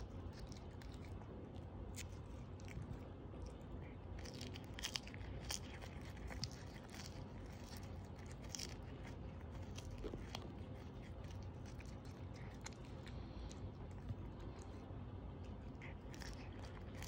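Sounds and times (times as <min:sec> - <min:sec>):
cat licking and chewing fish: 0:00.0 - 0:17.0.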